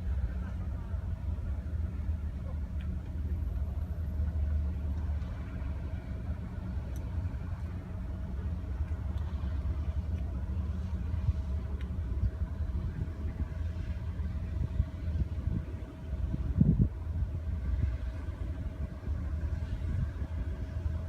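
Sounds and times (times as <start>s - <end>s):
faint steady hum: 0.0s - 21.0s
ship engines rumbling: 0.0s - 21.0s.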